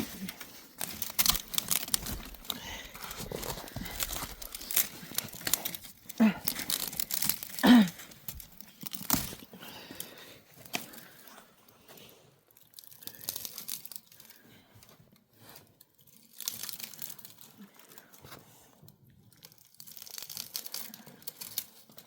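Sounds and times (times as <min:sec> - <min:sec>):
rustling and crinkling handling: 0:00.0 - 0:22.0.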